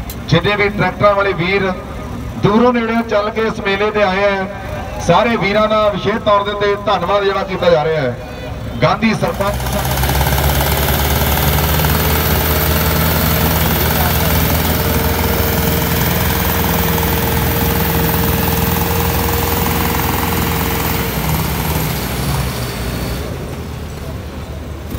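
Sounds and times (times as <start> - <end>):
diesel tractor engines labouring: 0.0 - 24.9.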